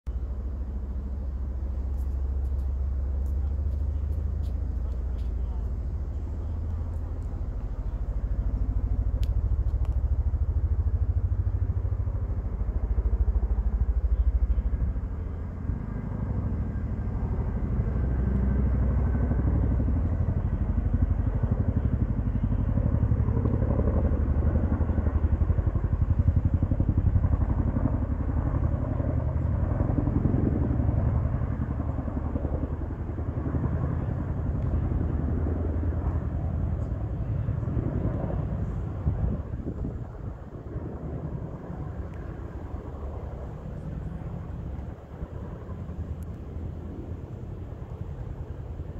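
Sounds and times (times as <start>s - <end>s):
helicopter rotors and engines: 0.1s - 48.9s.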